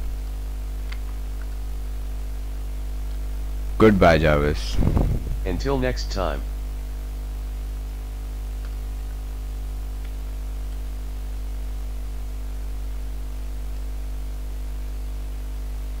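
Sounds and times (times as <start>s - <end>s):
static hiss: 0.0s - 12.9s
mains hum: 0.0s - 16.0s.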